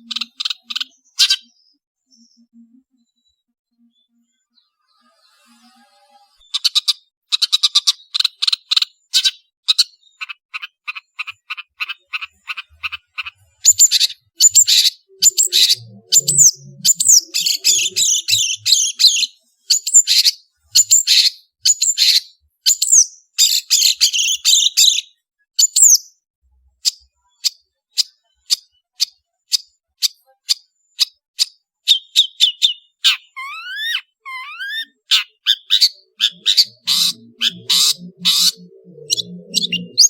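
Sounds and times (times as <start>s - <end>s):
bird singing: 0.0s - 26.2s, 26.8s - 40.0s.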